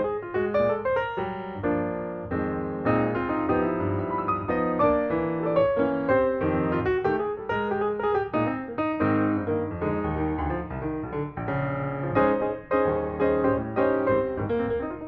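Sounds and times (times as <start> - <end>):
lively piano melody: 0.0 - 15.0.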